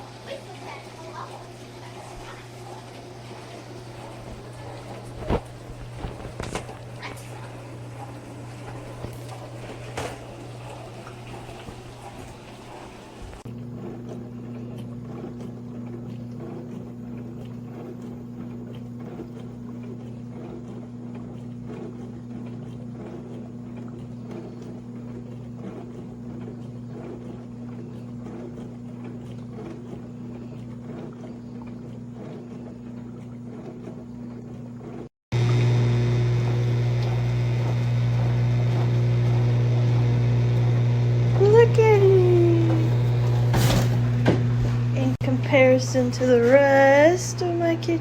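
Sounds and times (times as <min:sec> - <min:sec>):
dishwasher motor hum: 0:00.0 - 0:48.0.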